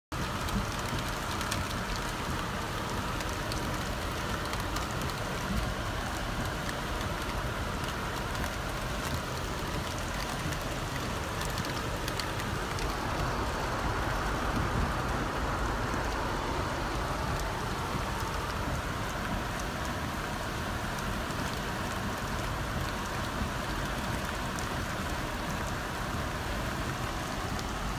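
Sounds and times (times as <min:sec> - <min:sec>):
steady rain falling: 0:00.1 - 0:27.9
raindrop ticks: 0:00.2 - 0:27.9.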